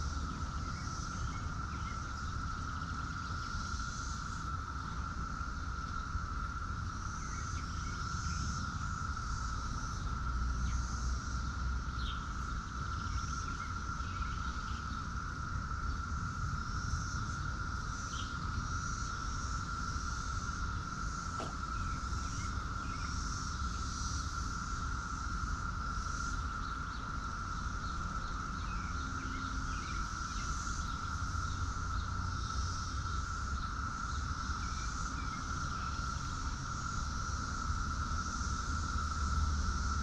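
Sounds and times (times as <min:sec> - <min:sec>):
crickets shimmering: 0:00.0 - 0:40.0
high insect drone: 0:00.0 - 0:40.0.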